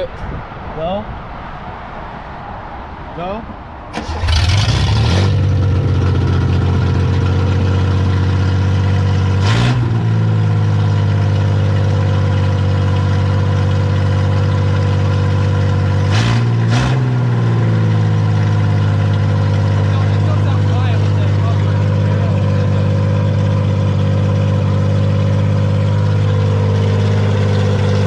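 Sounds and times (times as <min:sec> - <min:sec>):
car engine idling: 0:04.0 - 0:16.6, 0:17.2 - 0:28.0.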